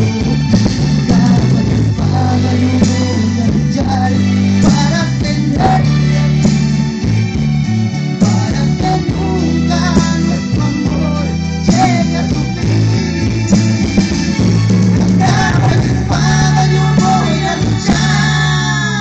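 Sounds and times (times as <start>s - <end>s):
man singing into microphone: 0.0s - 6.8s, 8.2s - 14.0s, 15.0s - 19.0s
backing music: 0.0s - 19.0s
bass line: 0.0s - 19.0s.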